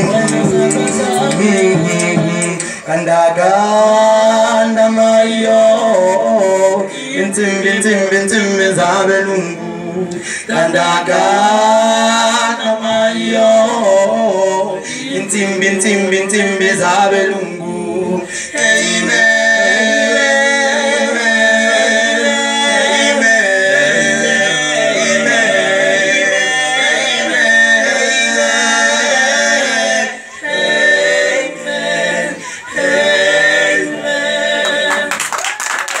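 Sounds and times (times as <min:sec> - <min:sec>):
male voices singing a cappella: 0:00.0 - 0:35.4.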